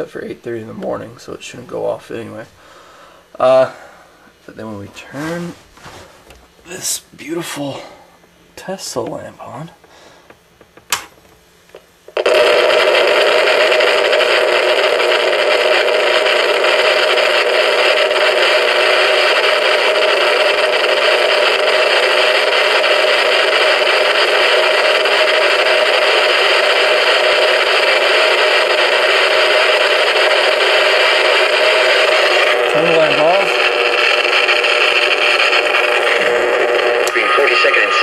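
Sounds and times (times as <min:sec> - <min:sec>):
loud radio static: 0:00.0 - 0:06.0, 0:11.7 - 0:38.0.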